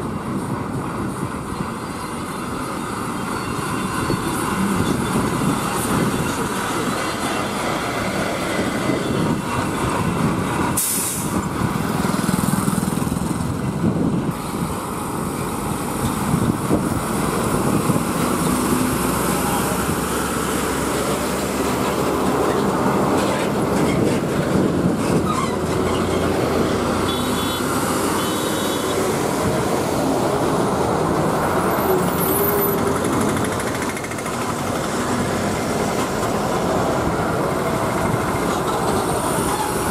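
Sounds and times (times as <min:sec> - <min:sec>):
tyre noise on road: 0:00.0 - 0:39.9.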